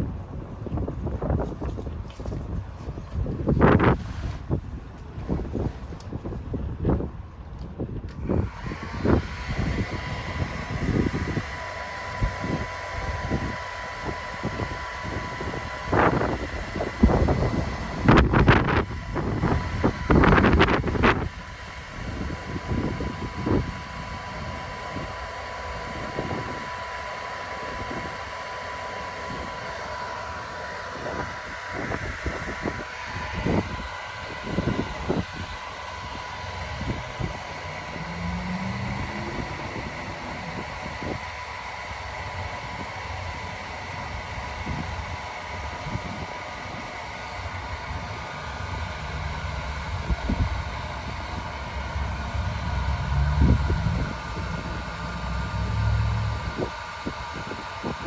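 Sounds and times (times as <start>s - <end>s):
hair dryer whining: 0.7s - 7.0s, 8.1s - 58.0s.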